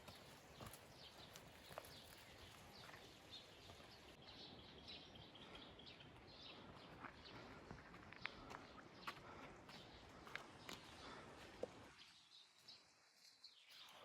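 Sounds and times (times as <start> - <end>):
faint birds chirping: 0.0 - 14.0
outdoor background noise: 0.0 - 14.0.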